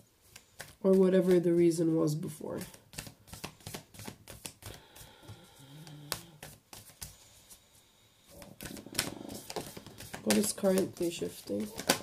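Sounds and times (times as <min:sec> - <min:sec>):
cards being shuffled: 0:00.2 - 0:07.6, 0:08.3 - 0:12.0.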